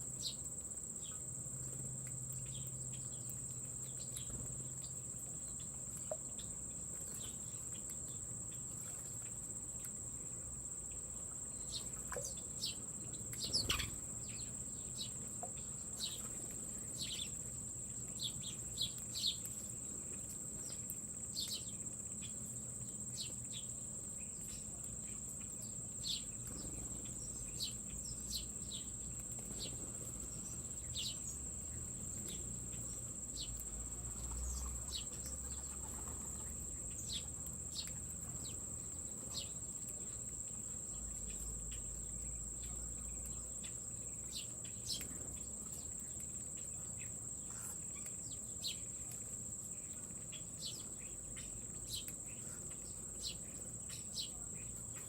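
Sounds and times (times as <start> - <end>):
high-pitched insect trill: 0.0 - 19.9, 20.6 - 55.0.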